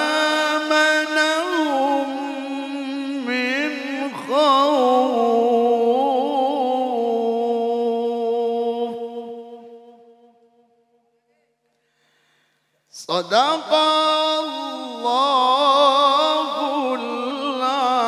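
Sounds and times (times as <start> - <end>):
man reciting melodically: 0.0 - 10.2, 12.8 - 18.0.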